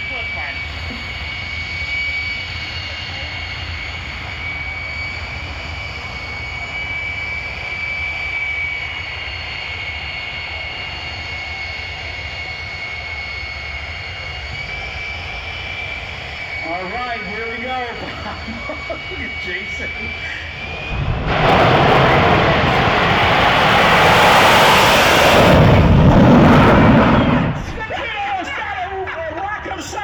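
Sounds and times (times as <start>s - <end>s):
jet engine turbine whine: 0.0s - 30.0s.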